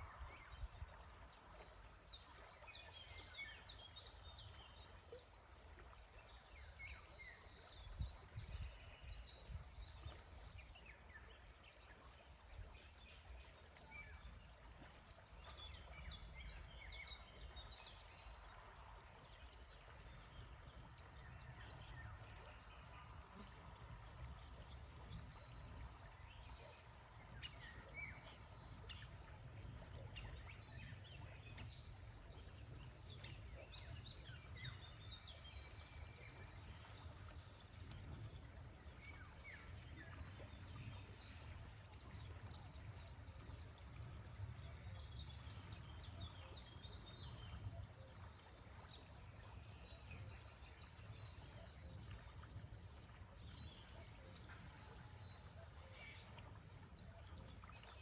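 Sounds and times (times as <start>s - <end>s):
flowing river water: 0.0s - 58.0s.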